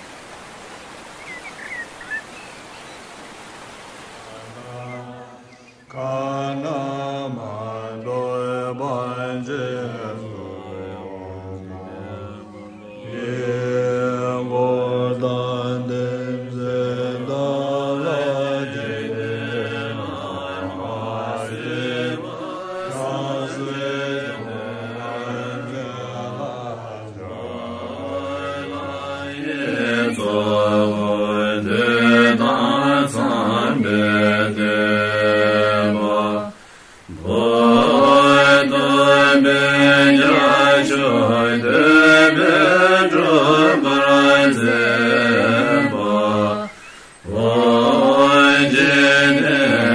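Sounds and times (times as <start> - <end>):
group chanting in held tones: 4.3 - 49.9.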